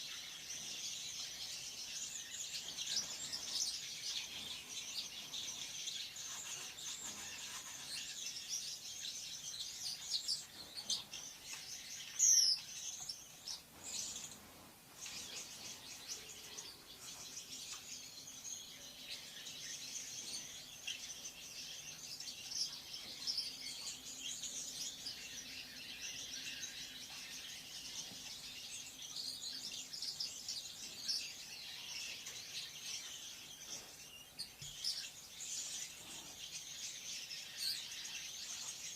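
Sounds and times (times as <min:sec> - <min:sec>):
lovebirds chattering: 0:00.0 - 0:38.9.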